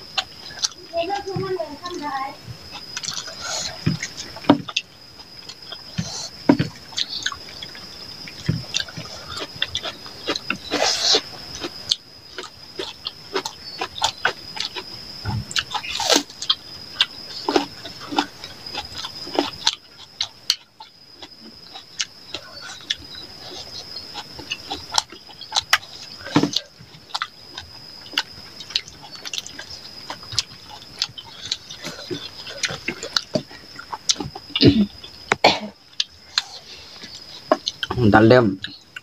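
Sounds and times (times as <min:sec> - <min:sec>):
chewing and mouth clicks: 0:00.0 - 0:01.1, 0:02.6 - 0:38.0, 0:38.6 - 0:39.0
people eating with wet smacks: 0:00.0 - 0:01.5, 0:02.5 - 0:39.0.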